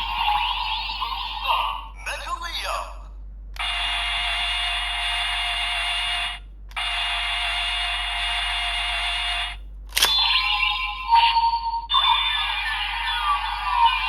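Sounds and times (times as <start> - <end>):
tinny electronic buzzing from toy: 0.0 - 1.9, 3.6 - 14.0.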